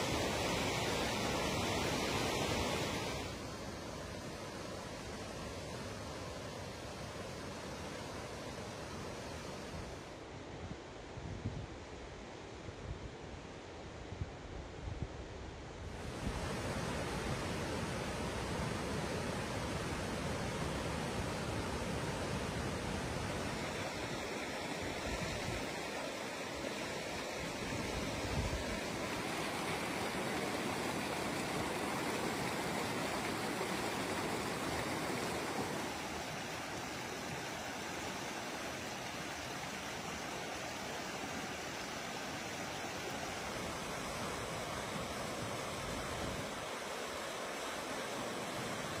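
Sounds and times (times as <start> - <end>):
river rushing over rocks: 0.0 - 10.2, 16.0 - 49.0.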